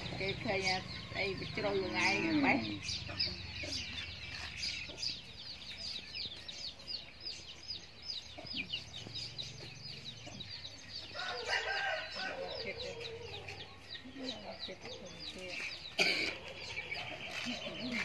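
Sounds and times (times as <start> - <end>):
chicken clucking: 0.0 - 18.0
chicks peeping: 0.0 - 18.0.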